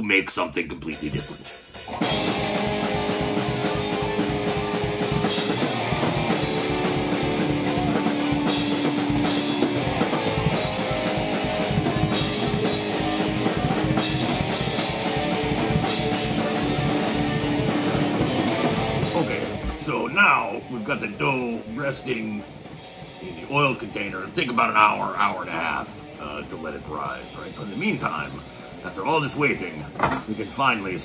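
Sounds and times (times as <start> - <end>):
rock music with drums and guitar: 0.0 - 31.0.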